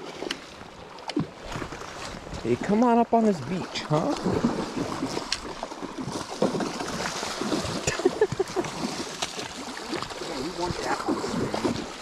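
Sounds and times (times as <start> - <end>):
fish thrashing and splashing: 0.0 - 12.0
rushing river water: 0.0 - 12.0.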